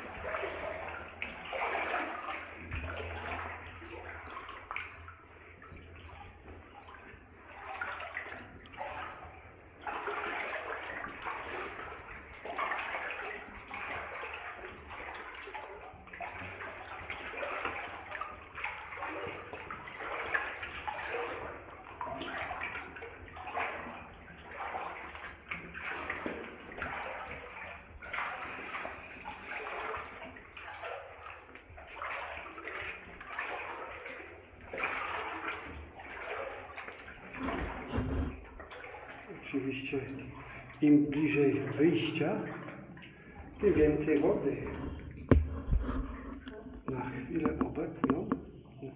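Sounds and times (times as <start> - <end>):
water sloshing around wading legs: 0.0 - 48.9.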